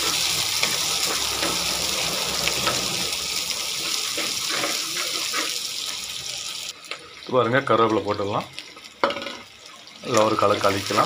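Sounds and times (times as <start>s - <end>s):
shallots and garlic sizzling in oil: 0.0s - 11.0s.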